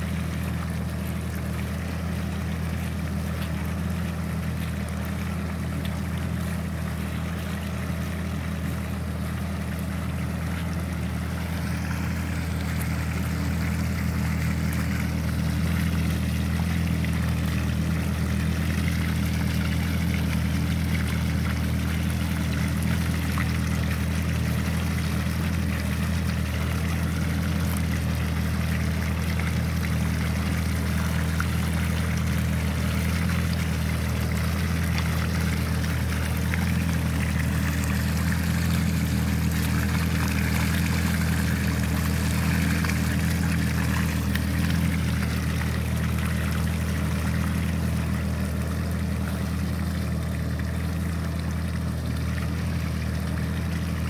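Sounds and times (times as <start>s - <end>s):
liquid manure splashing: 0.0s - 54.0s
tractor engine running: 0.0s - 54.0s.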